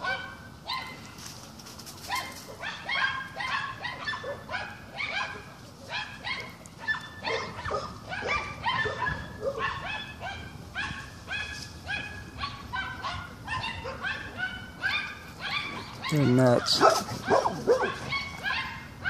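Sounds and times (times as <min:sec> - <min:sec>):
dogs barking: 0:00.0 - 0:01.2, 0:01.9 - 0:19.0.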